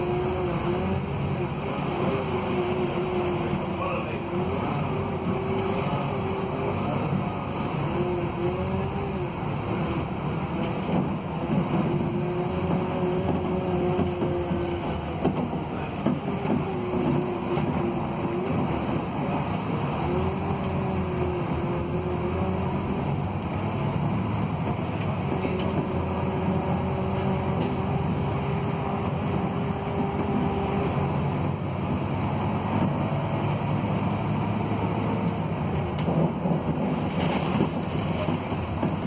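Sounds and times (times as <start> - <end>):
bus diesel engine drone: 0.0 - 39.0
road noise: 0.0 - 39.0.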